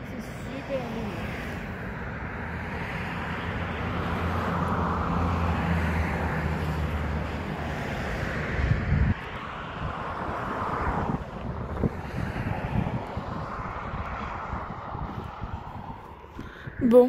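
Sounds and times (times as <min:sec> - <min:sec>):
vehicle engine passing by: 0:02.2 - 0:17.0.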